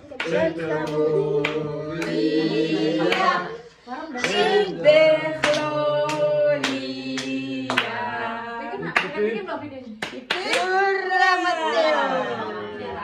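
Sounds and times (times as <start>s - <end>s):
group singing: 0.0s - 13.0s.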